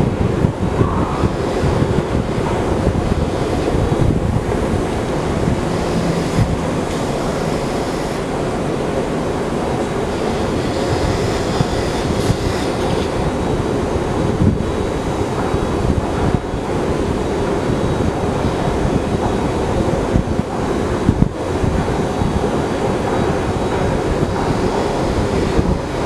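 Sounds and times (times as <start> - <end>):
moving walkway rumble: 0.0 - 26.0.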